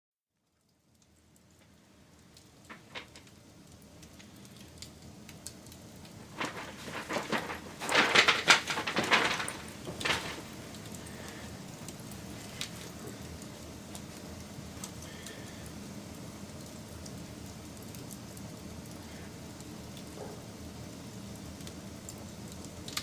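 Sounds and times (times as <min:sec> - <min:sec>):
wood fire crackling and popping: 0:00.4 - 0:23.0.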